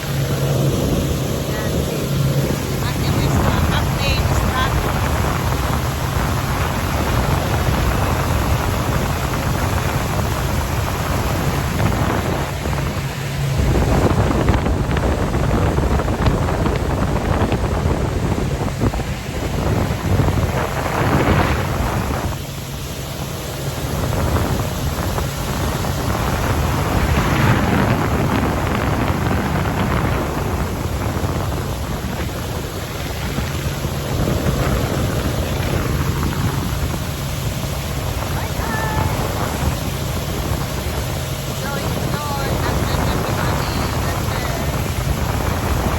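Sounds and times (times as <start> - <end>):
motorboat engine running: 0.0 - 45.9
wind buffeting the microphone: 0.0 - 45.9.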